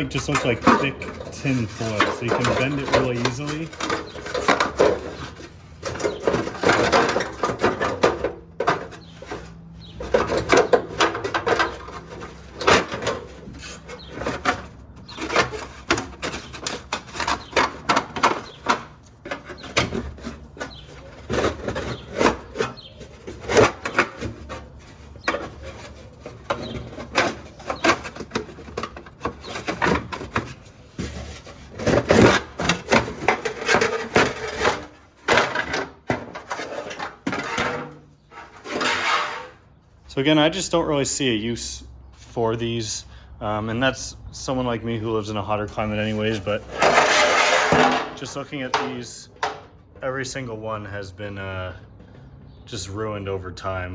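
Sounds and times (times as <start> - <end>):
sheet metal crinkling and clattering: 0.0 - 39.8, 45.6 - 49.9.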